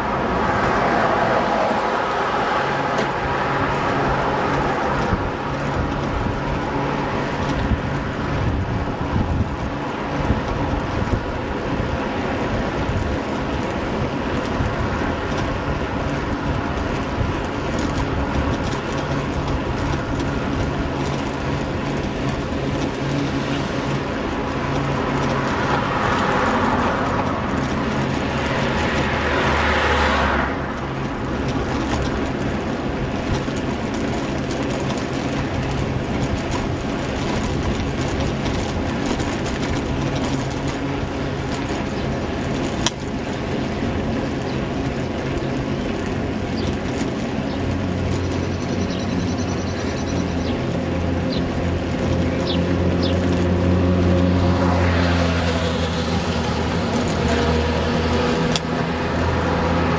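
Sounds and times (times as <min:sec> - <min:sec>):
traffic noise: 0:00.0 - 0:59.9
wind noise on microphone: 0:00.0 - 0:59.9.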